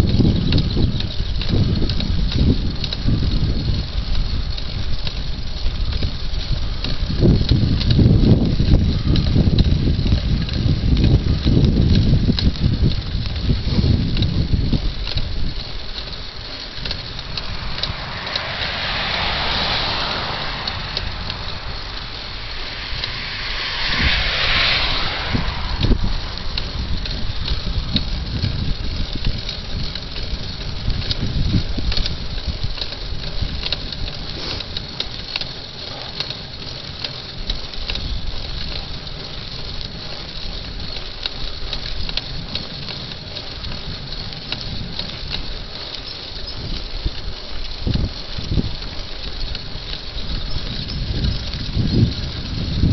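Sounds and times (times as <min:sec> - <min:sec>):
bike clicks and rattles: 0:00.0 - 0:19.5, 0:26.5 - 0:52.9
bicycle tyres on asphalt: 0:00.0 - 0:52.9
wind rumbling on microphone: 0:00.0 - 0:52.9.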